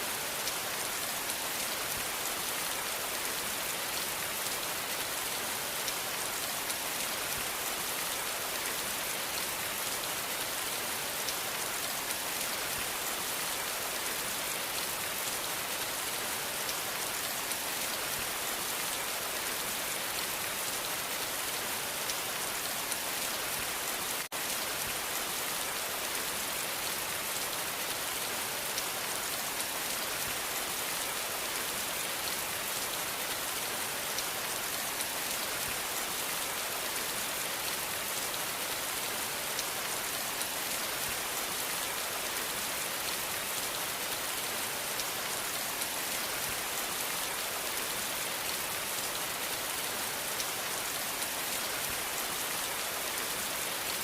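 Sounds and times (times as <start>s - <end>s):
dense rainfall hiss: 0.0s - 54.0s.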